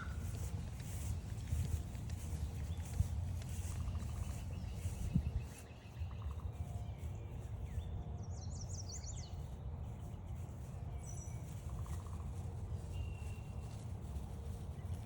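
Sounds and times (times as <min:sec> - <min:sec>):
songbirds singing: 0:00.0 - 0:15.0
steady low rumble: 0:00.0 - 0:15.0.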